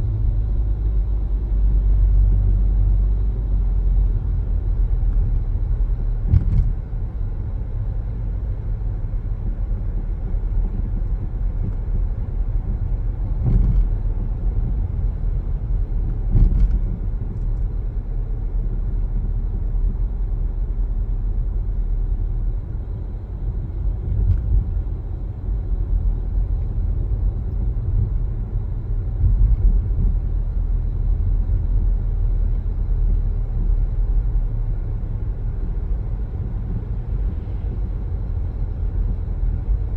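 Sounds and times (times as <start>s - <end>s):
car driving with tyre noise: 0.0s - 39.9s.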